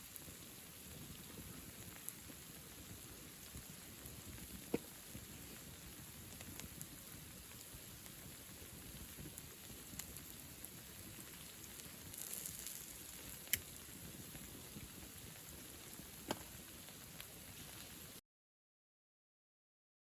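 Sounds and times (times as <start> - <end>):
sharp fire pops: 0.0 - 17.9
bonfire crackling: 0.0 - 18.2
faint fire hiss: 0.0 - 18.2.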